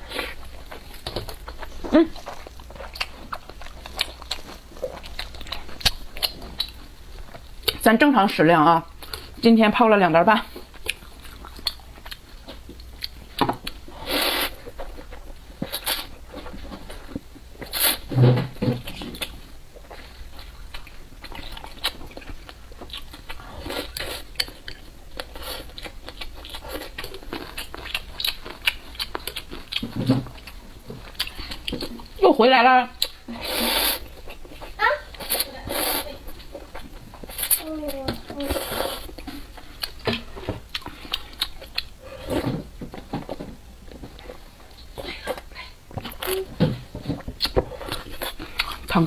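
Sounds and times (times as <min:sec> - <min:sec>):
person chewing noodles: 0:00.0 - 0:07.8, 0:08.9 - 0:09.4, 0:10.5 - 0:18.1, 0:18.9 - 0:32.2, 0:33.0 - 0:46.6, 0:47.2 - 0:49.0.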